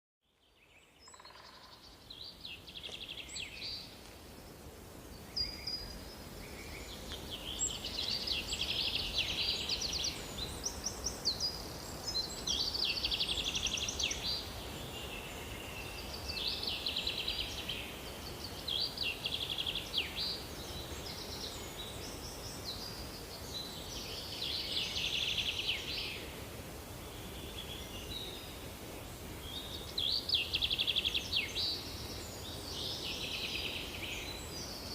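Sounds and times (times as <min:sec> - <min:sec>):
low background noise: 0:00.2 - 0:34.9.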